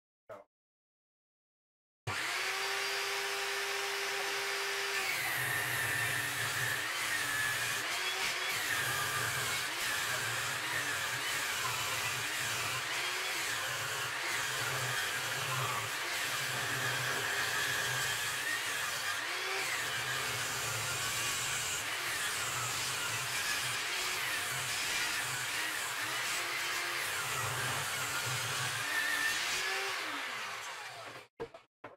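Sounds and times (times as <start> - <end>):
table saw ripping wood: 2.1 - 31.3.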